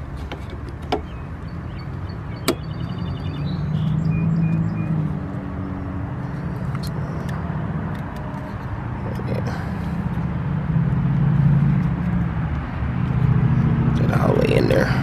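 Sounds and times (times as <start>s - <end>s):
traffic rumble: 0.0s - 15.0s
vehicle passing: 2.2s - 15.0s.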